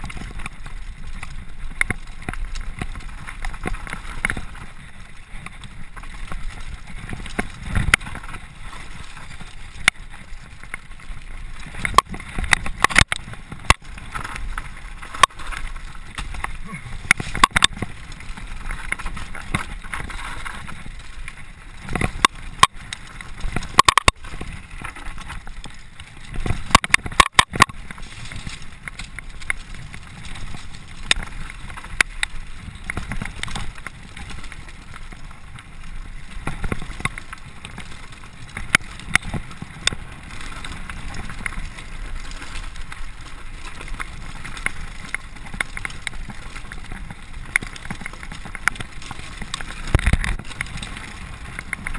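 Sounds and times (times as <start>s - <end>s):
bike clattering over bumps: 0.0s - 51.9s.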